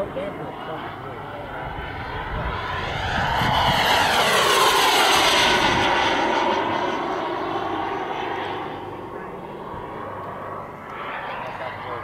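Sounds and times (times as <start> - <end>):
jet turbine whine flyby: 0.0 - 12.0.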